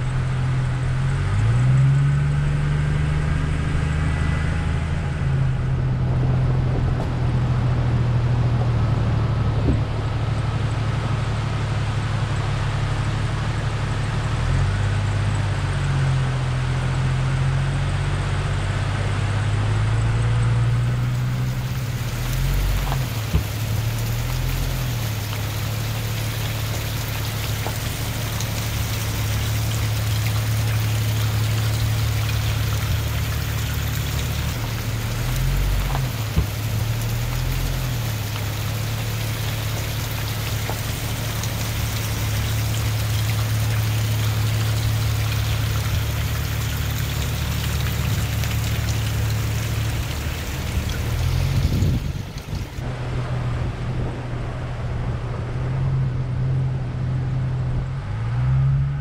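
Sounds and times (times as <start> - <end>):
car engine drone: 0.0 - 59.0.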